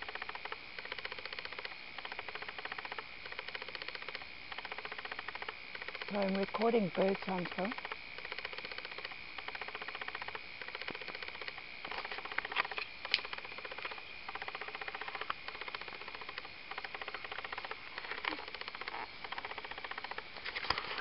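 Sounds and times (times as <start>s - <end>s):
faint high whine: 0.0s - 21.0s
rapid pulsed bird calling: 2.0s - 21.0s.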